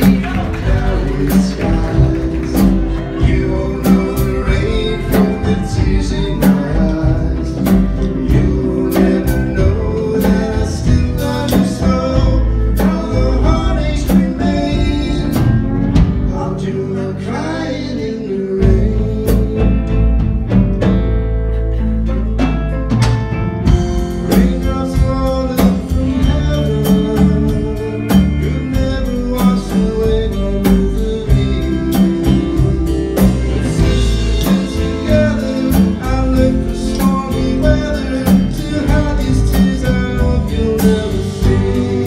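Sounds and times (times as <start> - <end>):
man singing: 0.0 - 20.6, 24.0 - 42.0
live country band playing: 0.0 - 42.0.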